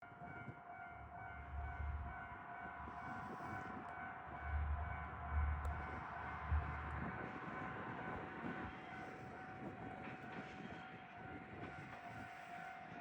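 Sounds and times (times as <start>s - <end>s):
diesel railcar whine and rumble: 0.0s - 13.0s.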